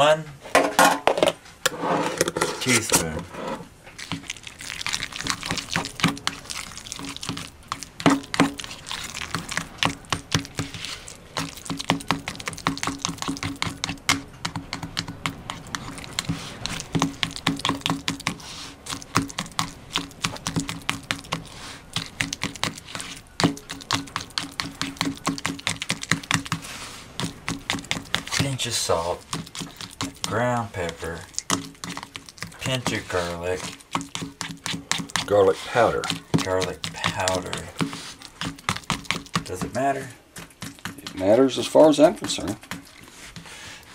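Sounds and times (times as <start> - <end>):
fork mashing in plastic tub: 1.7 - 43.9.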